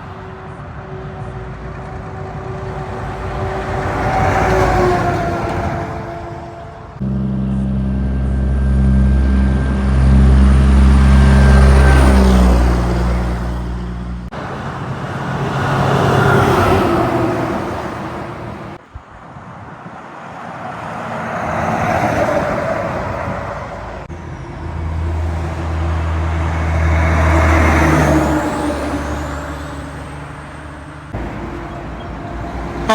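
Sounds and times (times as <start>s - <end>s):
heavy trucks driving past: 0.0s - 32.9s.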